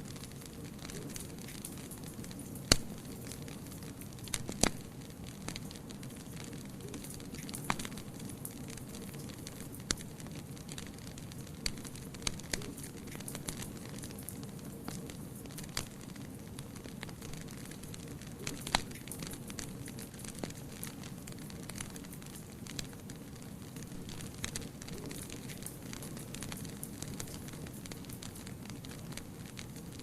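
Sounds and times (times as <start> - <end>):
fire crackles and pops: 0.0 - 30.0
fire flame rumble: 0.0 - 30.0.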